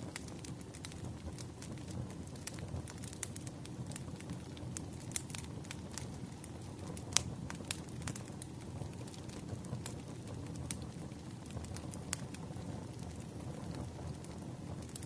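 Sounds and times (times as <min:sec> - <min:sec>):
campfire crackling and popping: 0:00.0 - 0:15.0
campfire rumbling: 0:00.0 - 0:15.0.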